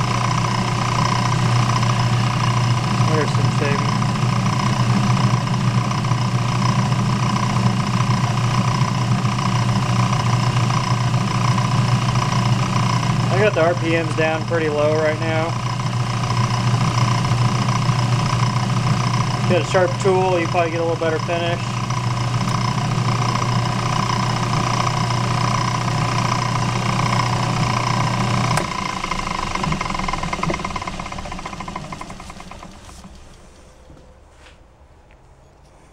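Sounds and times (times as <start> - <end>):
lathe tool cutting workpiece: 0.0 - 33.4
lathe humming: 0.0 - 34.0.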